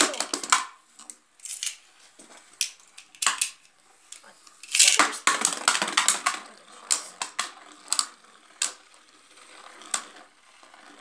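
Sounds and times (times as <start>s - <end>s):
spinning tops clacking: 1.4s - 1.8s, 2.6s - 11.0s.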